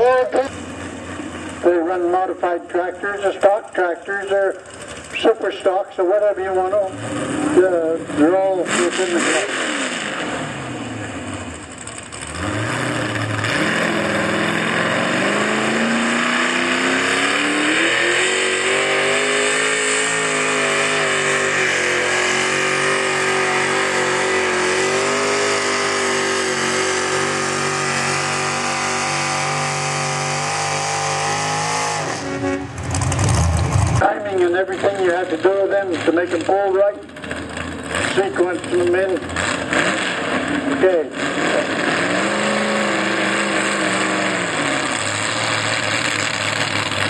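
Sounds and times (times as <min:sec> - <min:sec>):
tractor engine revving hard: 0:00.0 - 0:47.0.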